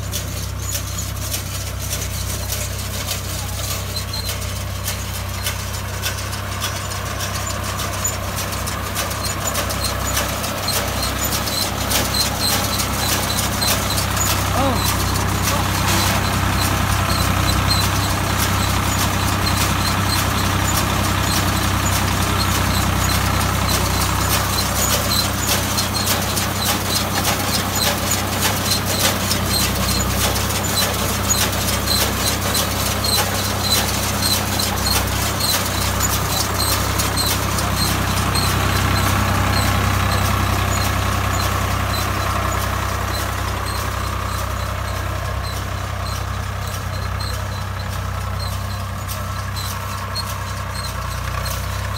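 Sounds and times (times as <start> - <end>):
baler mechanical clatter: 0.0 - 51.9
tractor diesel engine running: 0.0 - 51.9.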